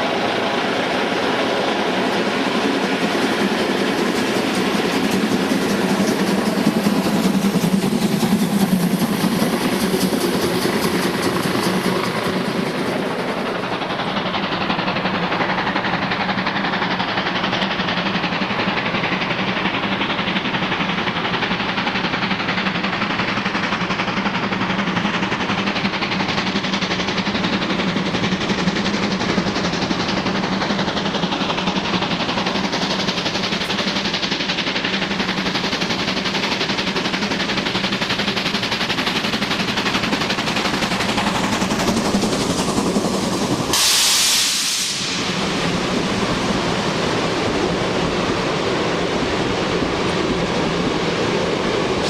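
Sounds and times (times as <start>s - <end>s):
steam locomotive exhaust beats: 0.0s - 52.0s.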